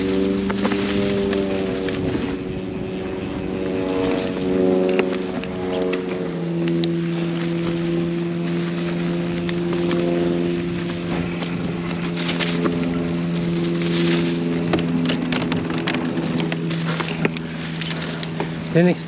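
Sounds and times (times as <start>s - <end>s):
bike knocks and rattles: 0.0s - 18.8s
wind on microphone: 0.0s - 18.8s
bike hub freewheel buzz: 0.0s - 19.0s.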